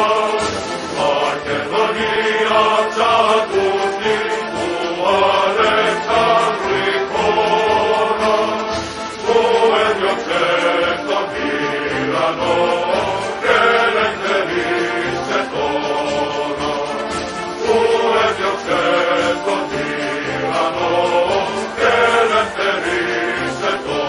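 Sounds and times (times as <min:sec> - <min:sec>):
choir singing chant-like melody: 0:00.0 - 0:24.0.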